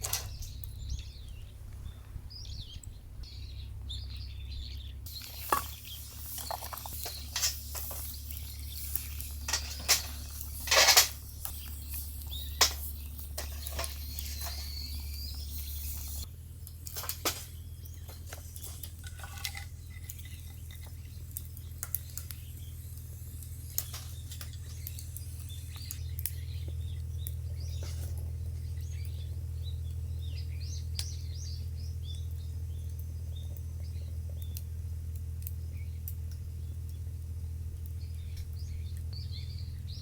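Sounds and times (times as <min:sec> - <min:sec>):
small birds chirping: 0:00.0 - 0:40.0
steady low rumble: 0:00.0 - 0:40.0.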